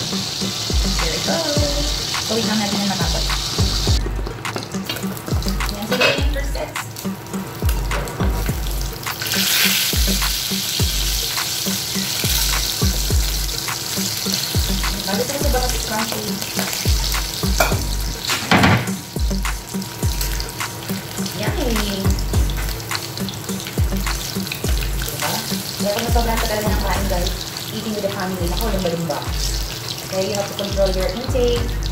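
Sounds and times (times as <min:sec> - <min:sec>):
fish sizzling in hot oil: 0:00.0 - 0:31.9.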